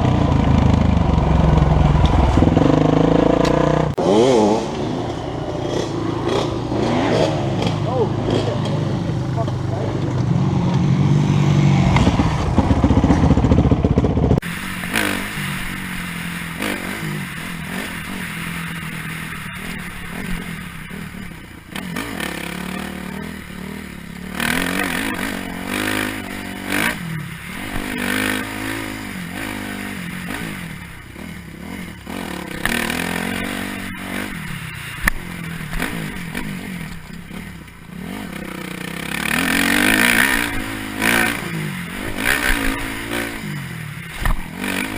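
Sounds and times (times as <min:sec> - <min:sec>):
bike rattling and scraping: 0:00.0 - 0:44.9
dirt bike engine revving: 0:00.0 - 0:44.9.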